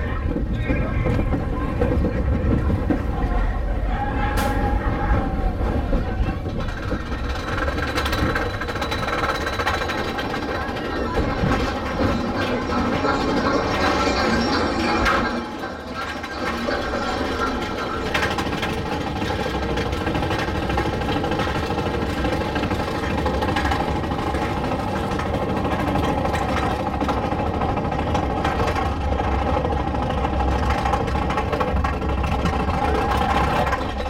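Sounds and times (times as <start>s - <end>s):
roller coaster chain lift clatter: 0.0s - 34.0s.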